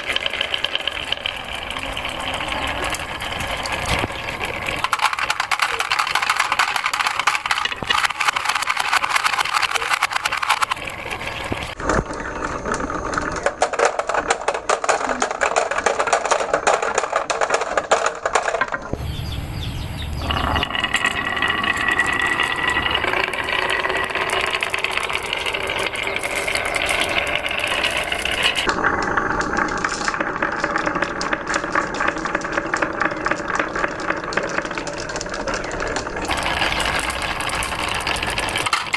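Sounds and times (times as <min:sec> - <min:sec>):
marbles rattling down wooden tracks: 0:00.0 - 0:19.0, 0:20.2 - 0:38.9.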